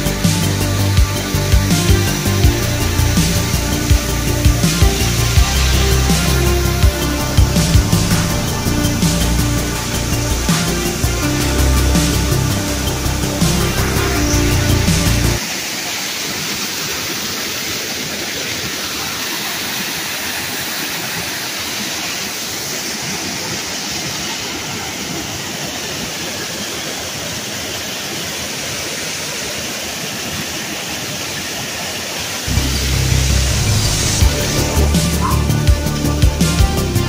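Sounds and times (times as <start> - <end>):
water pouring over rock ledge: 0.1 - 34.3.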